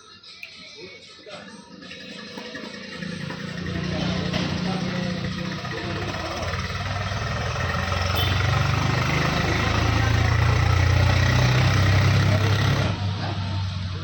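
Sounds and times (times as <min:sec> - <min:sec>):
electric fan running: 0:01.9 - 0:14.0.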